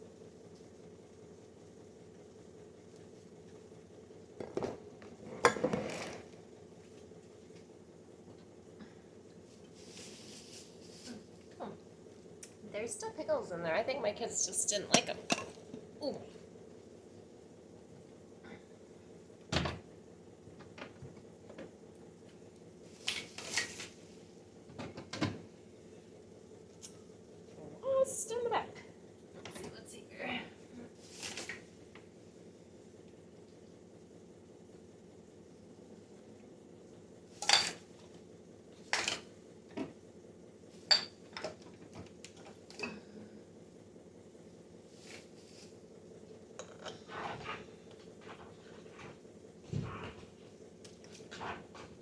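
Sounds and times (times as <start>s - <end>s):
refrigerator hum: 0.0s - 52.0s.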